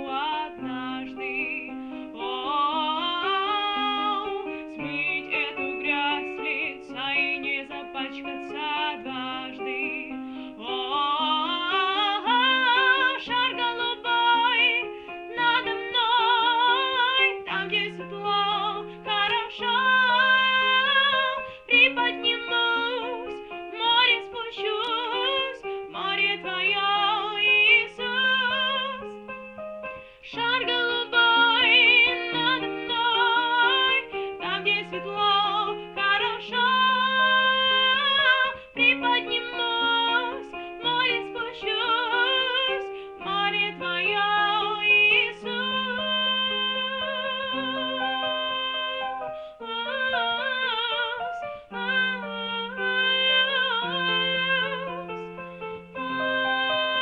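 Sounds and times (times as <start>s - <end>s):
woman singing with vibrato: 0.0s - 29.2s, 30.1s - 57.0s
instrumental accompaniment: 8.5s - 57.0s.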